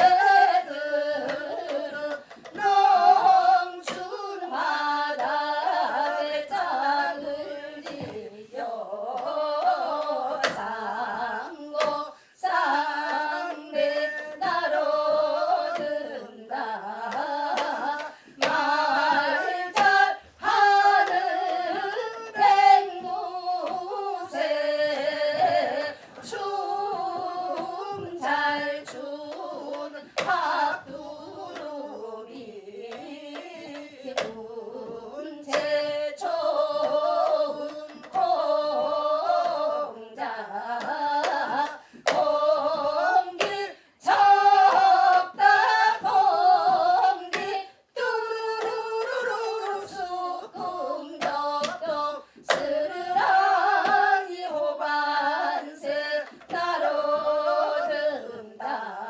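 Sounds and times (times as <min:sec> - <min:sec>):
person singing folk song: 0:00.0 - 0:59.0.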